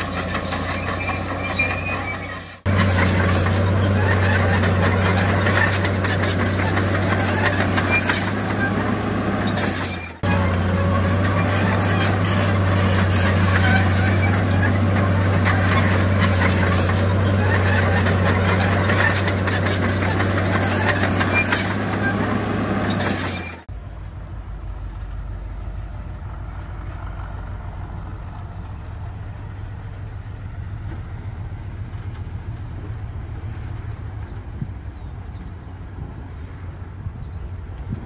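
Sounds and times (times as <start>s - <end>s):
diesel construction machinery running: 0.0s - 38.0s.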